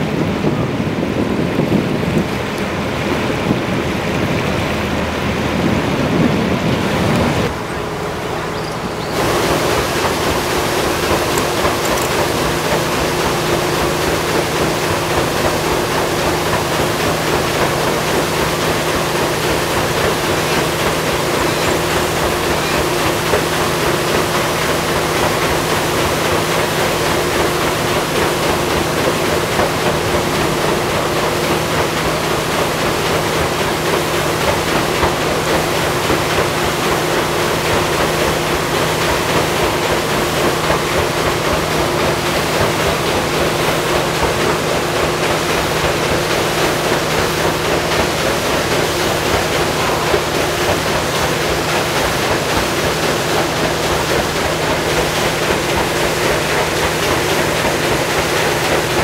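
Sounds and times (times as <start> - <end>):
low engine hum: 0.0 - 59.0
paddle wheel churning water: 0.0 - 59.0.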